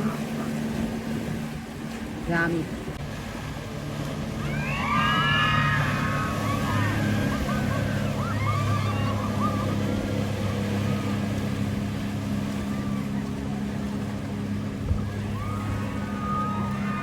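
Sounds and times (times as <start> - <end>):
speedboat engine humming: 0.0 - 17.0
water noise: 0.0 - 17.0.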